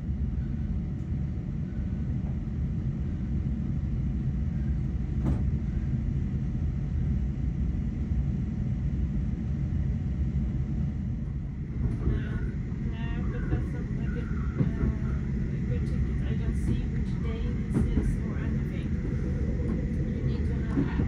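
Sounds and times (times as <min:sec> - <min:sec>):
train rumbling inside carriage: 0:00.0 - 0:21.0.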